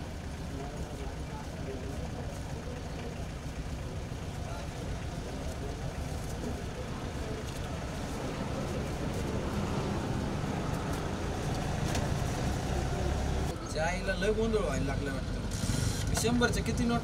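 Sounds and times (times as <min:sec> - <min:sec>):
low rumble of passing vehicles: 0:00.0 - 0:17.0.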